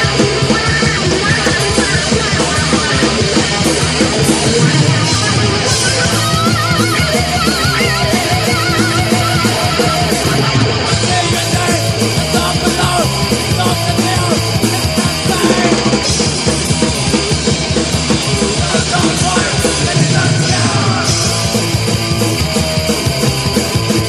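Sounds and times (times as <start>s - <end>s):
punk rock band playing: 0.0s - 24.0s.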